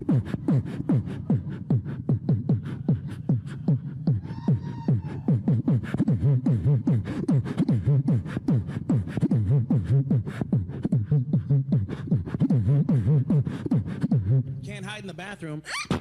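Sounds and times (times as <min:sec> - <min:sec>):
man beatboxing bass beat: 0:00.0 - 0:14.8.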